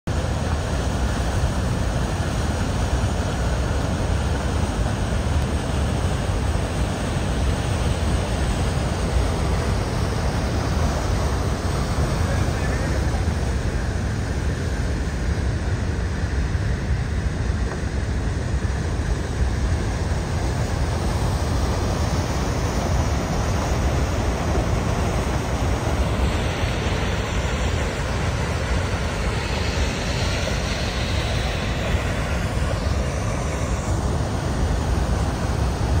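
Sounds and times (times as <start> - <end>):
waterfall rushing: 0.2 - 15.2, 18.4 - 36.0.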